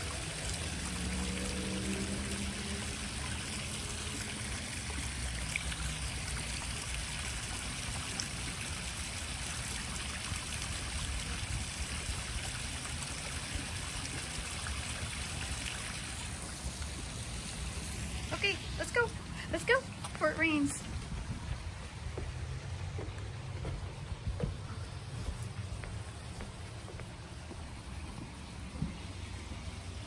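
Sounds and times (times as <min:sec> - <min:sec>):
waterfall splashing into pond: 0:00.0 - 0:30.0.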